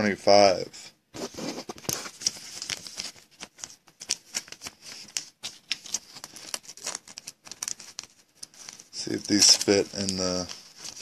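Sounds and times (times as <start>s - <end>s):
cards and plastic sleeves clicking: 1.7s - 11.0s.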